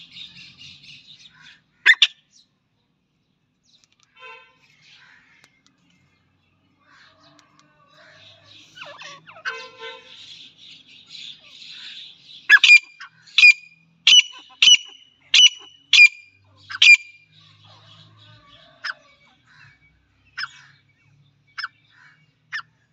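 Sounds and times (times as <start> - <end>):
loud sharp bird calls: 0.0 - 2.6, 3.7 - 22.9.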